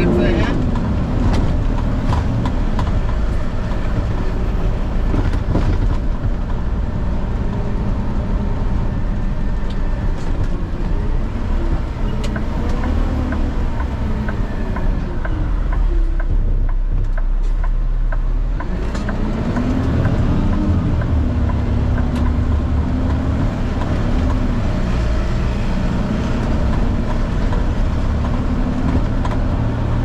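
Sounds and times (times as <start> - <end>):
truck engine and road drone: 0.0 - 30.0.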